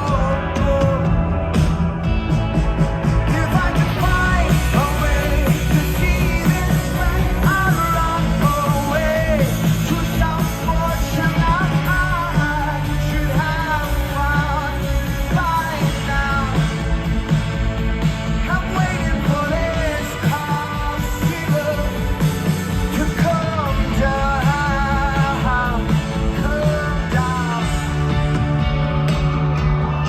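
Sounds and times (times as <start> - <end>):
person singing: 0.0 - 1.4, 3.1 - 16.8, 18.4 - 28.3
rock band playing: 0.0 - 30.0.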